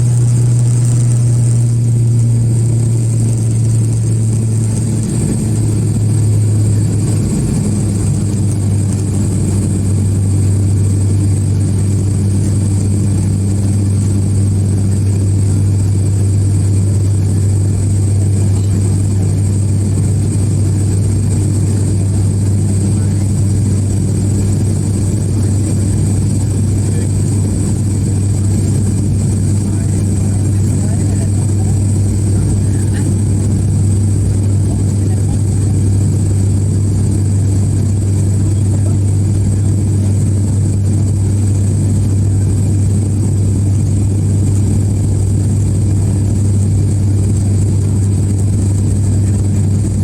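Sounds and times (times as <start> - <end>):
airliner engine drone in cabin: 0.0 - 50.0.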